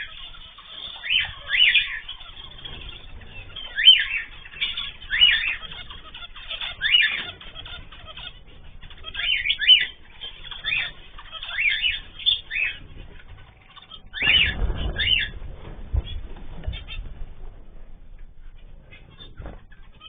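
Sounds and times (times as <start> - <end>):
birds calling sharply: 0.0 - 20.0
rustling: 0.0 - 20.0.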